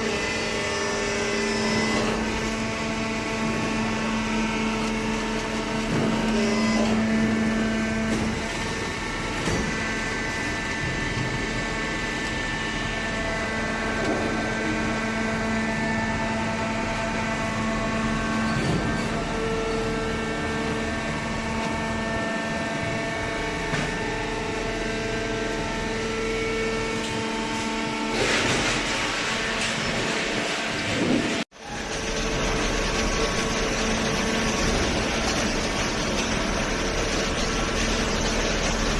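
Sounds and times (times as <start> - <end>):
hydraulic power unit humming: 0.0 - 38.9.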